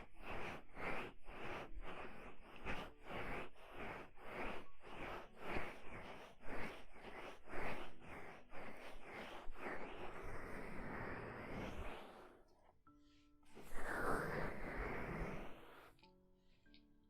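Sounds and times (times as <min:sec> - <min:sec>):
hands rubbing microphone: 0:00.0 - 0:12.5, 0:13.6 - 0:16.0.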